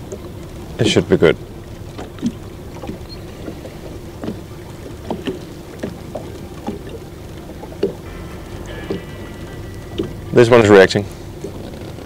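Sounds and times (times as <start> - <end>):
low steady hum: 0.0 - 12.0
waves slapping boat hull: 0.0 - 12.0.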